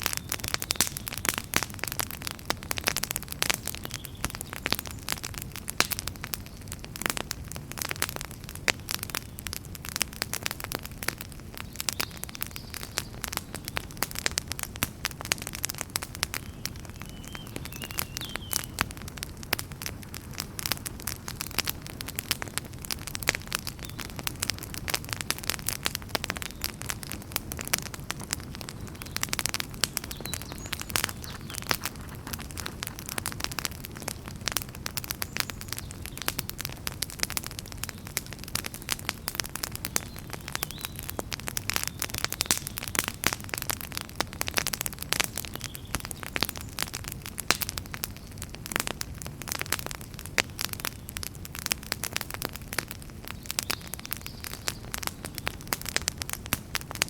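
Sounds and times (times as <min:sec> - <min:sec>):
fireplace fire crackling and popping: 0:00.0 - 0:57.0
low rumble of flames: 0:00.0 - 0:57.0.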